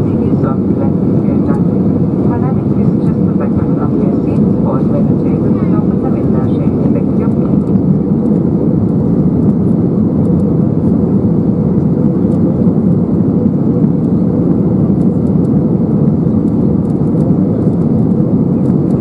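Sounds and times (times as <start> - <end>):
airplane cabin noise: 0.0 - 19.0.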